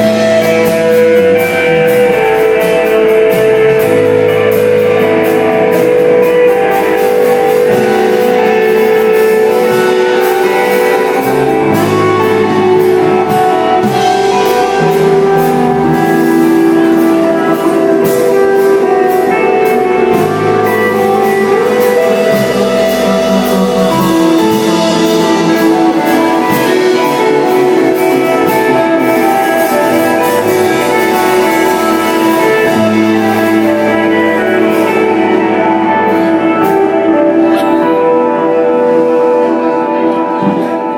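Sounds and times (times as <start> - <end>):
bass guitars: 0.0 - 40.9
drums: 0.0 - 40.9
electric guitar long notes: 0.0 - 40.9.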